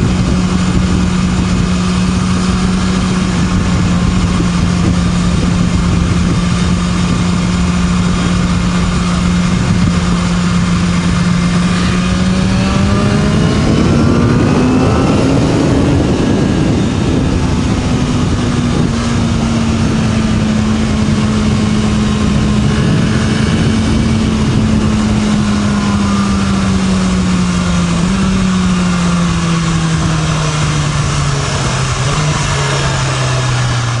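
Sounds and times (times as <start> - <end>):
motorcycle engine running: 0.0 - 34.0
rush of noise: 0.0 - 34.0.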